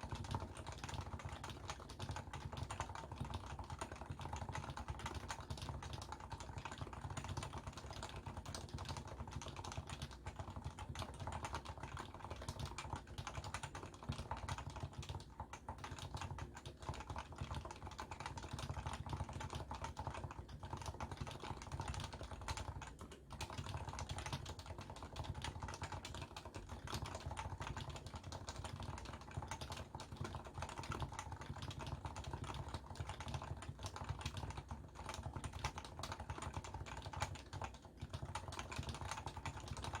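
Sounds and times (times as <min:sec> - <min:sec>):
keyboard typing: 0:00.0 - 0:40.0.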